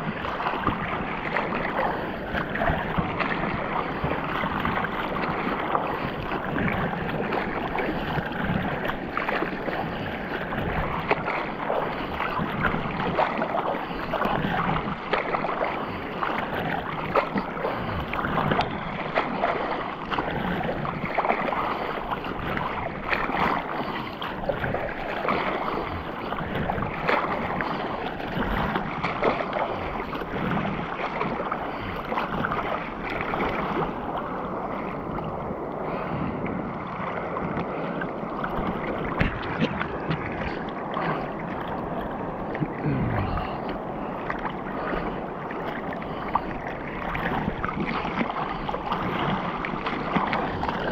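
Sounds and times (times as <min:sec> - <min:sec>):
sea water splashing: 0:00.0 - 0:50.9.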